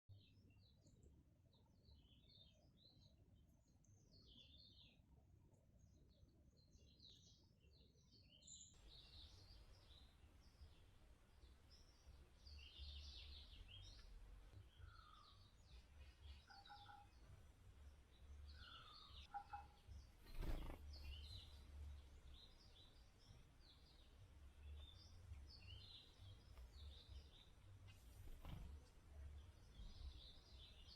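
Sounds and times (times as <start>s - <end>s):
wild birds chirping: 0.2s - 30.9s.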